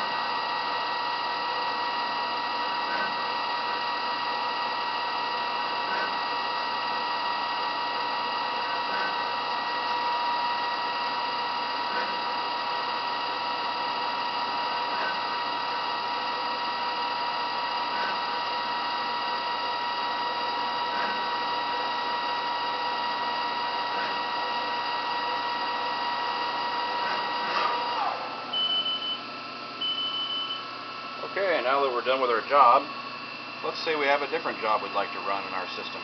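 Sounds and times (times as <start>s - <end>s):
lathe machine whine: 0.0s - 36.0s.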